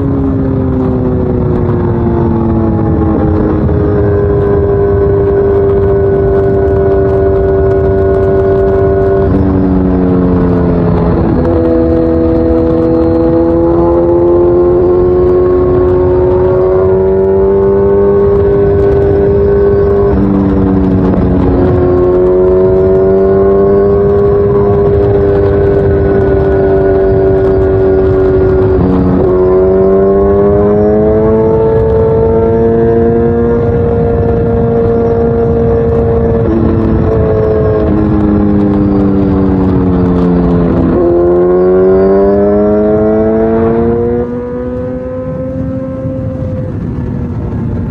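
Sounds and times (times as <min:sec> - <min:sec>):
motorcycle engine exhaust note: 0:00.0 - 0:47.9.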